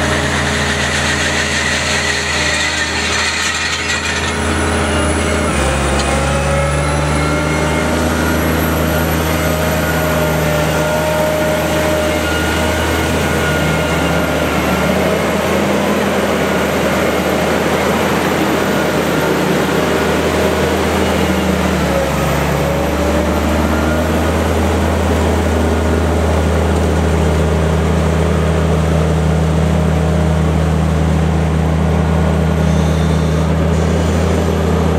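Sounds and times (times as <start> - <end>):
harvester engine running: 0.0 - 34.9.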